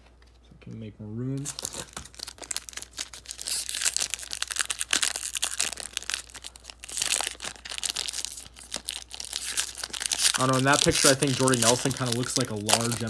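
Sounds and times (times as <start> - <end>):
foil wrapper crinkling and tearing: 1.4 - 13.0.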